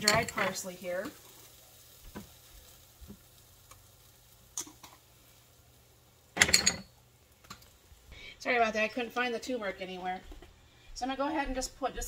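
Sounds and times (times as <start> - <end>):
rice and garlic sizzling faintly: 0.0 - 12.0.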